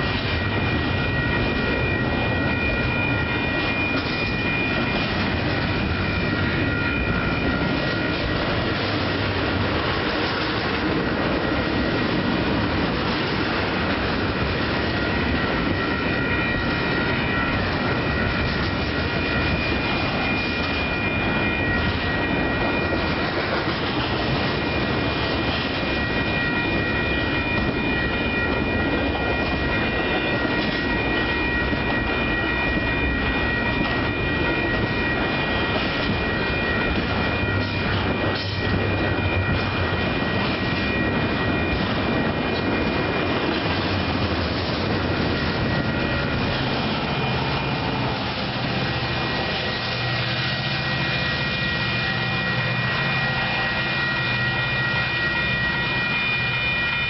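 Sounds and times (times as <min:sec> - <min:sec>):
high ringing tones: 0:00.0 - 0:57.0
steel wheels on rails: 0:00.0 - 0:57.0.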